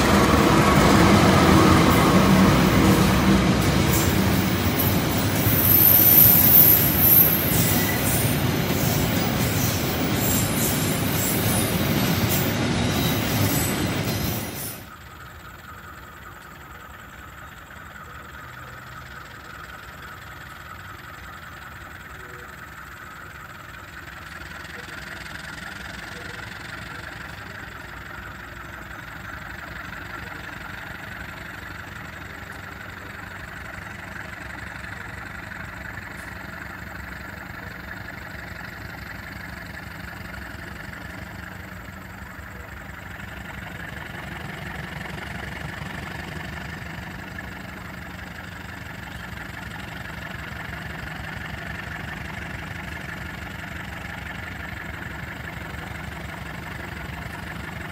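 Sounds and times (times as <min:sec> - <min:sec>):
diesel locomotive engine idling: 0:00.0 - 0:57.9.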